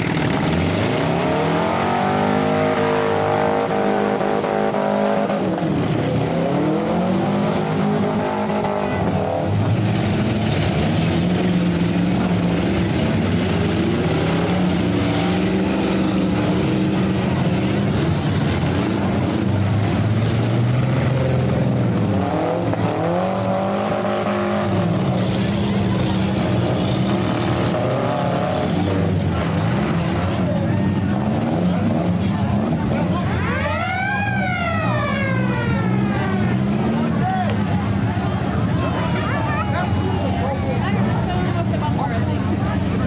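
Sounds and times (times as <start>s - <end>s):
car engines revving hard: 0.0s - 43.0s
din of several engines: 0.0s - 43.0s.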